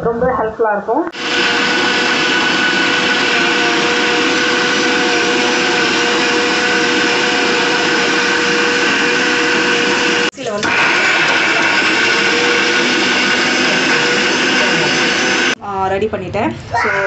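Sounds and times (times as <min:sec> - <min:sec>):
mixer grinder grinding: 0:01.1 - 0:15.6.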